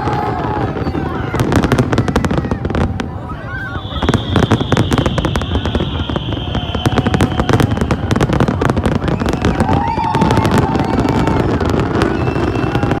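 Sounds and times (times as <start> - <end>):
firework whistling: 0.0 - 13.0
fireworks banging and crackling: 0.0 - 13.0.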